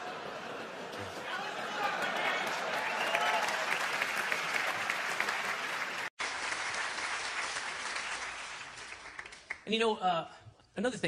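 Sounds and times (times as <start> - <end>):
theatre audience applauding: 0.6 - 9.7.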